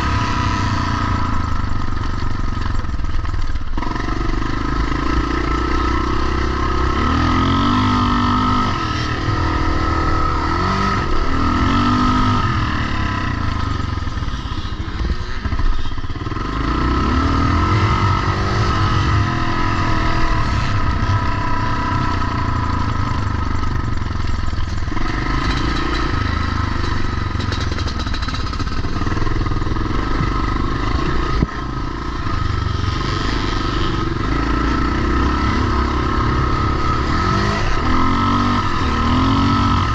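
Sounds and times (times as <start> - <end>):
motocross motorcycles revving: 0.0 - 39.9.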